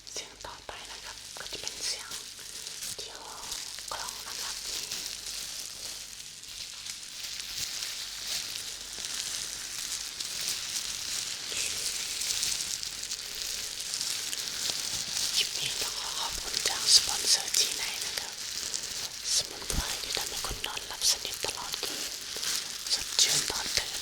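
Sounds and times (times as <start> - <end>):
crackling and fizzing noise: 0.0 - 24.0.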